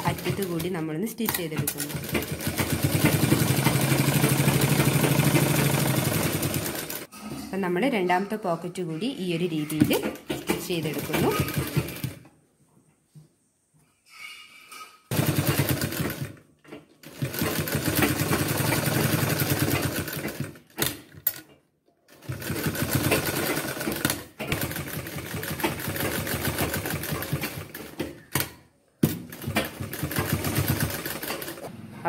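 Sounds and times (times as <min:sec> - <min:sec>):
sewing machine stitching: 0:00.0 - 0:07.1, 0:09.7 - 0:12.2, 0:15.1 - 0:31.7.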